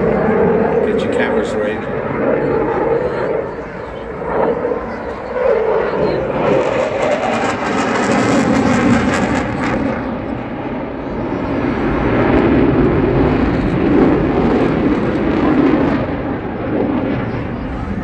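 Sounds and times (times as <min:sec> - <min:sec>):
fighter jet engines roaring: 0:00.0 - 0:18.0.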